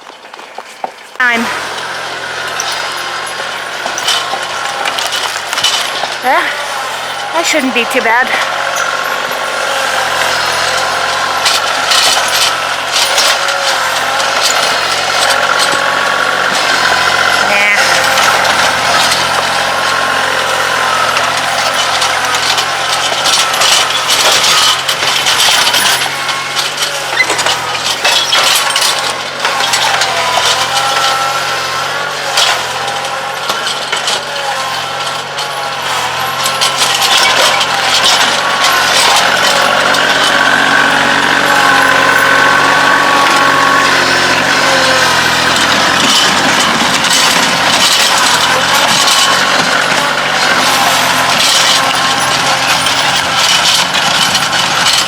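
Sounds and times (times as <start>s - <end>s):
rattles and knocks: 0.0s - 55.0s
tractor diesel engine running: 1.2s - 55.0s.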